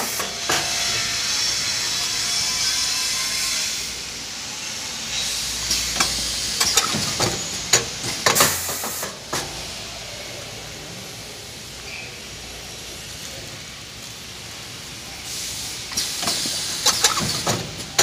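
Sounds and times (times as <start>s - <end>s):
packing machine hissing: 0.0s - 18.0s.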